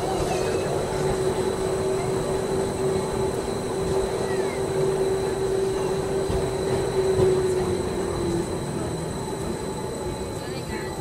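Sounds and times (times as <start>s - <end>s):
electric train rumbling: 0.0s - 11.0s
faint high whine: 0.0s - 11.0s.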